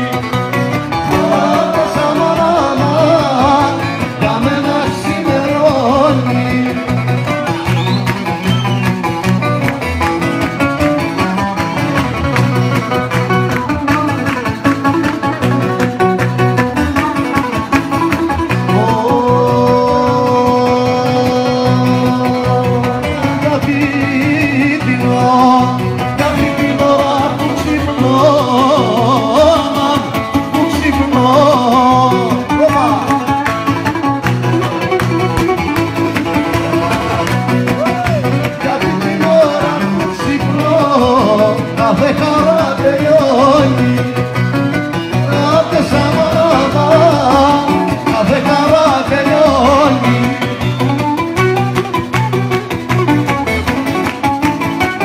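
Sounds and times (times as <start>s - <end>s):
folk music with acoustic guitars: 0.0s - 55.0s.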